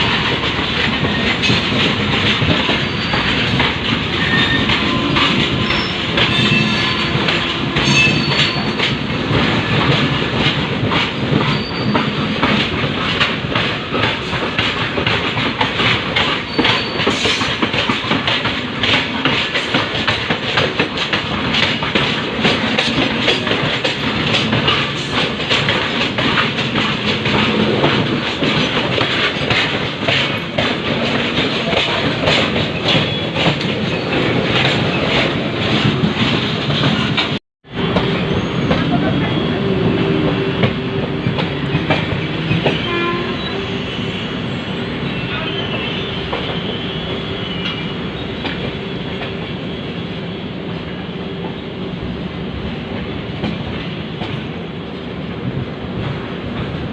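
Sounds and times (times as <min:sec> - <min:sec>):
train coach rumble: 0:00.0 - 0:56.9
wheels clickety-clack over rail joints: 0:00.0 - 0:56.9.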